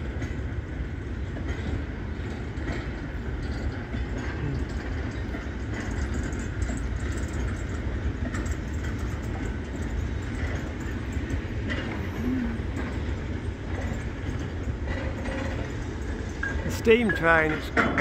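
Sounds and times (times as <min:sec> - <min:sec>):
wagons rumbling over steel bridge: 0:00.0 - 0:18.0.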